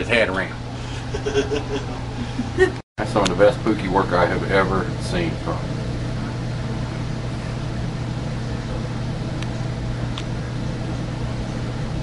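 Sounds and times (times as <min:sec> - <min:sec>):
air handler blower humming: 0:00.0 - 0:12.0.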